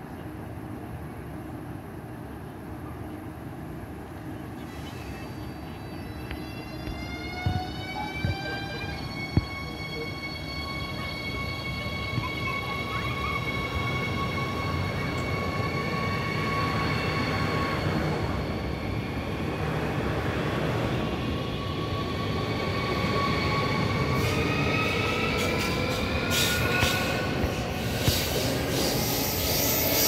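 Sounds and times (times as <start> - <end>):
train wheels rumbling on rails: 4.0 - 30.0.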